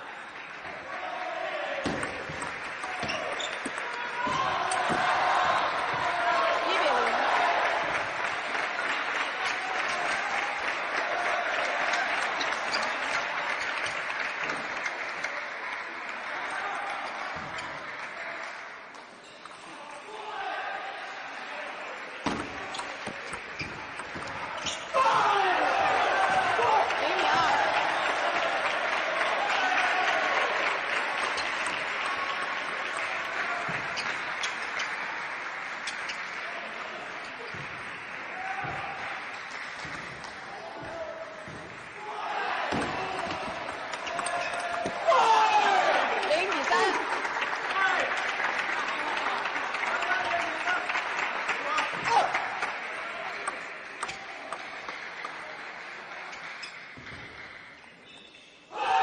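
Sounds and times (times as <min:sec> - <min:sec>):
crowd clapping and applauding: 0:00.0 - 0:19.0, 0:25.3 - 0:57.8.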